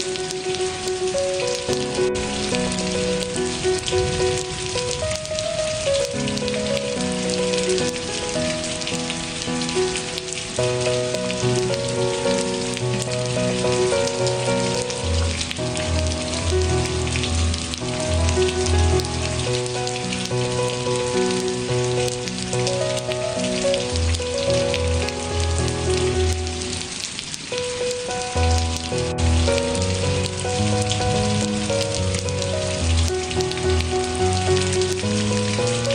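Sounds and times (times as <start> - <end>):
soft slow music: 0.0 - 35.9
steady rain falling: 0.0 - 35.9.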